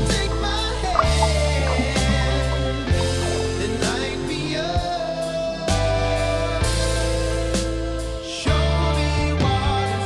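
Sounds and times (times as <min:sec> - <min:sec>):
song with steady bass line: 0:00.0 - 0:08.2.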